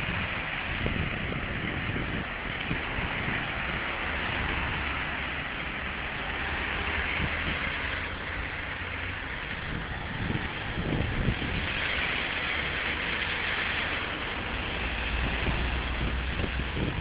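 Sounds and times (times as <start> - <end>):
traffic hiss on wet street: 0.0 - 17.0.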